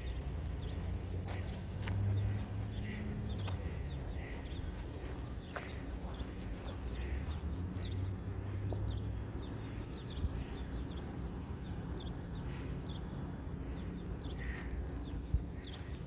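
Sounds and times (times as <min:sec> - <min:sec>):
footsteps on a trail: 0:00.0 - 0:11.2, 0:11.9 - 0:16.0.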